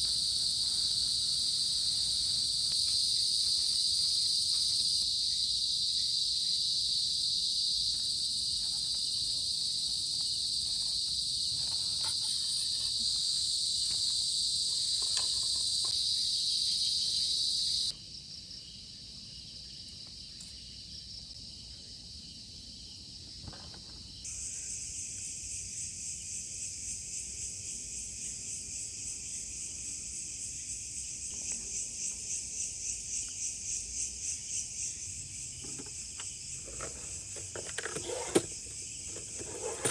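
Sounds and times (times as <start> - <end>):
high-pitched insect chorus: 0.0 - 23.2, 24.1 - 39.9.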